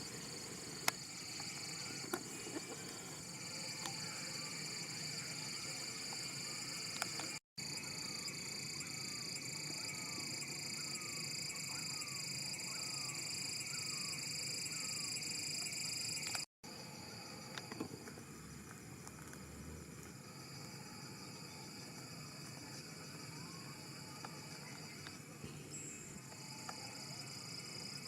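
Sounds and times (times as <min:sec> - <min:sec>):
insect chorus: 0:00.0 - 0:28.0.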